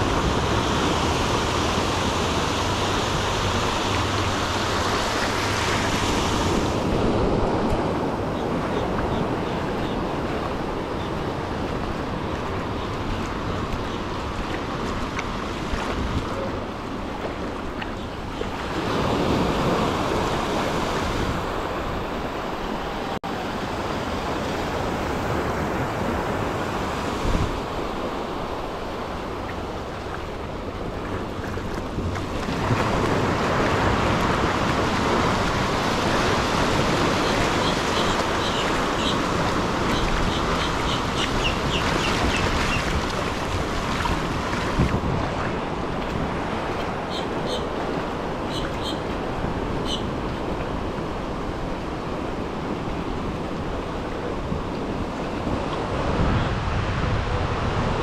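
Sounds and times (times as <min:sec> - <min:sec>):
ocean surf washing on beach: 0:00.0 - 0:58.0
wind on microphone: 0:00.0 - 0:58.0.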